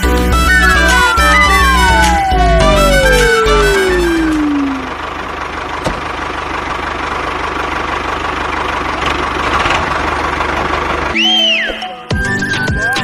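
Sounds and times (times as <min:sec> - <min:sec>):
tractor engine idling: 0:00.0 - 0:11.7.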